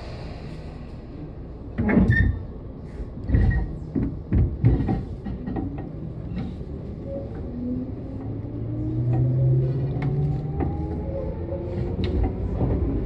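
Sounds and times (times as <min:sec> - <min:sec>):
train clunks and knocks: 0:00.0 - 0:11.0, 0:11.7 - 0:13.0
low train rumble: 0:00.0 - 0:13.0.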